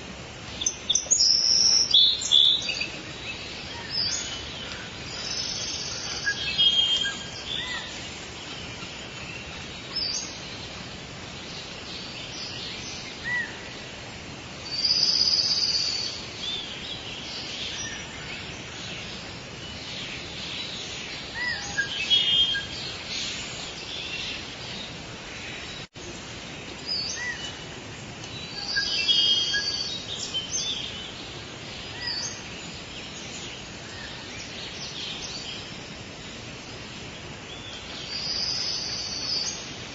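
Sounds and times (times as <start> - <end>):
birds calling and chirping: 0.0 - 39.9
steady background hiss: 0.0 - 39.9.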